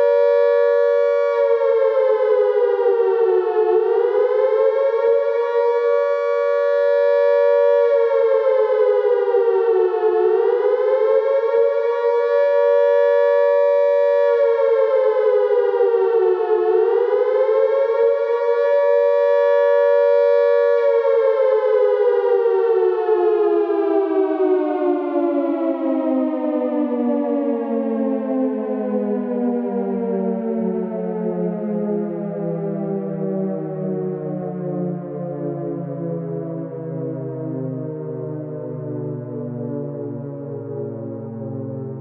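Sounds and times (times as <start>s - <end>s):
air raid siren wailing: 0.0s - 42.0s.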